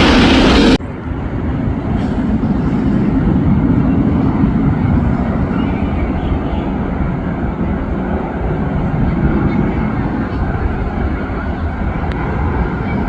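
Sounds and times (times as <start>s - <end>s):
jet airliner passing low: 0.0s - 13.0s.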